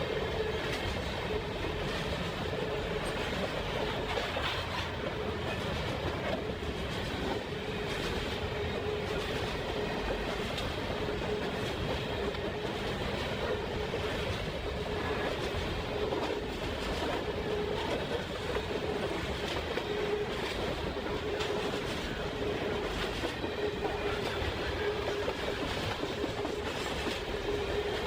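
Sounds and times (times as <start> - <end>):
train wheels clattering on rails: 0.0 - 28.0.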